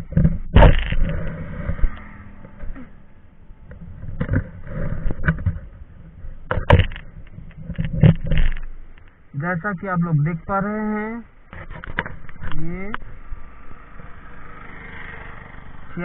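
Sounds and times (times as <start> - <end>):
motorcycle engine running: 0.0 - 8.9, 11.2 - 16.0.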